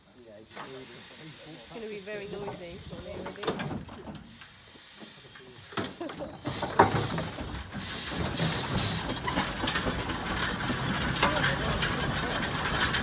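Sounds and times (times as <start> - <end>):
steam hissing: 0.0 - 13.0
steam engine running: 0.4 - 13.0.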